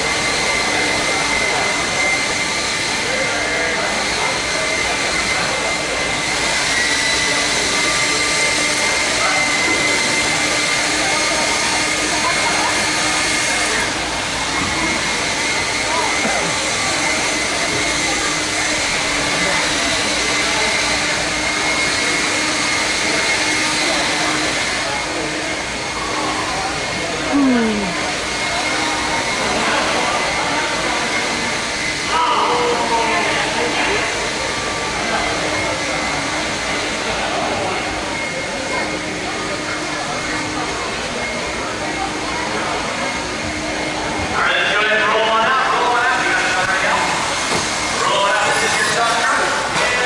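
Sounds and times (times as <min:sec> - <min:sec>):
steady whirring rushing noise: 0:00.0 - 0:50.0
thin high whine: 0:00.0 - 0:50.0.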